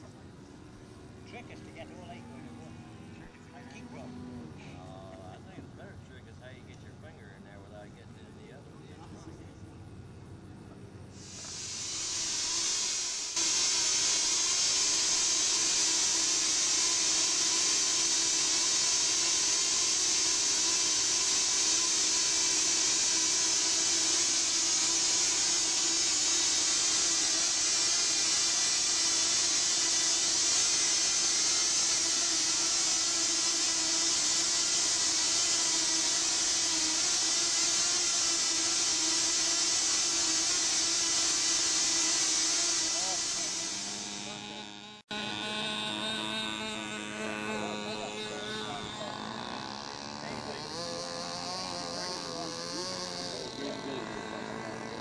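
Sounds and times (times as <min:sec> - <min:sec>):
small engines whining: 0:00.0 - 0:55.0.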